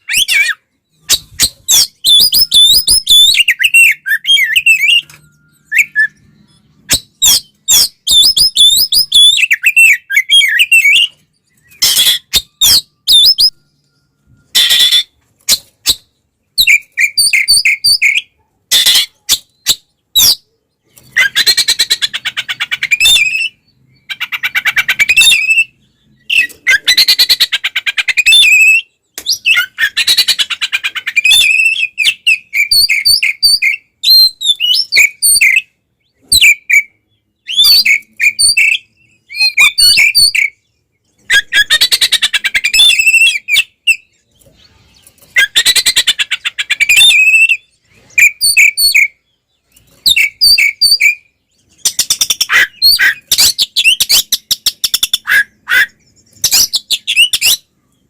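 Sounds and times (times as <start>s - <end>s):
songbird singing trills and whistles: 0.0s - 58.0s.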